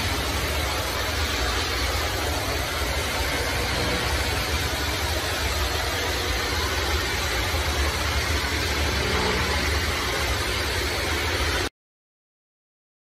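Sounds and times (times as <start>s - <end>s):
engine droning: 0.0s - 11.6s
pressure washer jet hissing: 0.0s - 11.7s.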